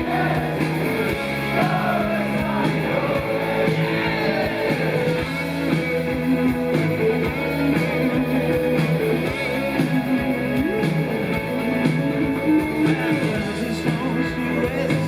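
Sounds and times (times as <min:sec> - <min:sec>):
bass guitar: 0:00.0 - 0:15.0
electric guitar with pitch bends: 0:00.0 - 0:15.0.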